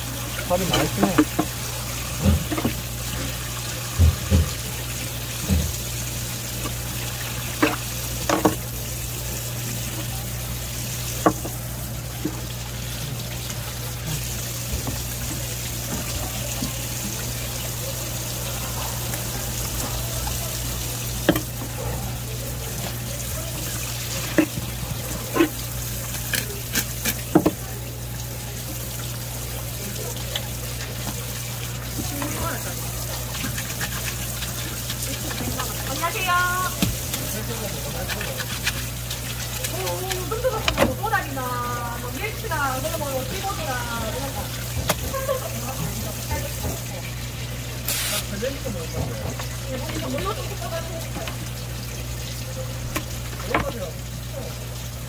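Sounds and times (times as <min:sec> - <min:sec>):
tap water running into sink: 0:00.0 - 0:55.0.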